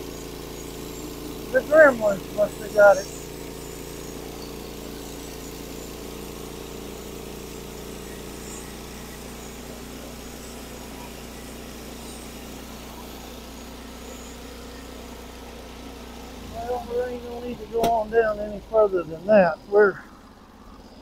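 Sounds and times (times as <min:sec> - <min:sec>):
sawmill engine idling: 0:00.0 - 0:21.0.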